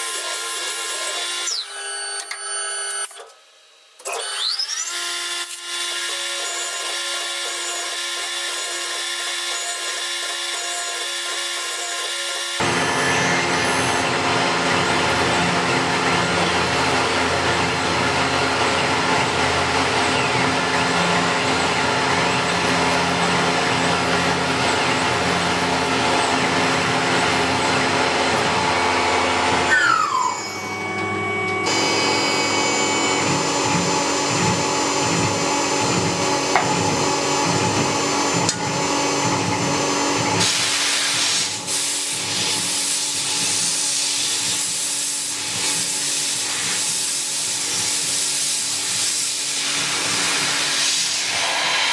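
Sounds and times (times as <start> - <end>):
milling machine cutting metal: 0.0 - 51.9.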